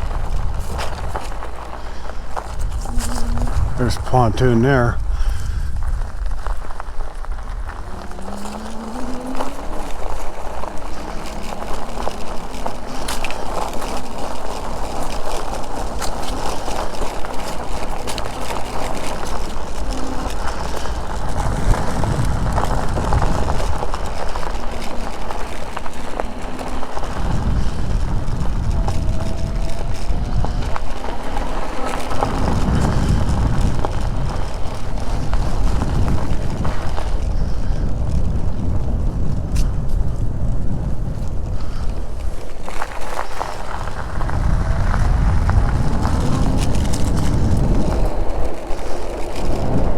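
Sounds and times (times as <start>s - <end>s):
e-bike rolling noise: 0.0s - 49.9s
wind buffeting microphone: 0.0s - 49.9s.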